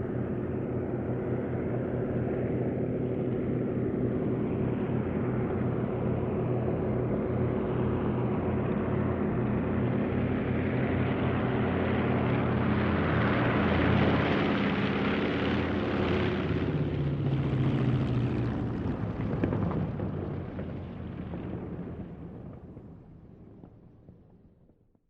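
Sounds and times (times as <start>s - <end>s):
airplane engines roaring: 0.0s - 24.2s.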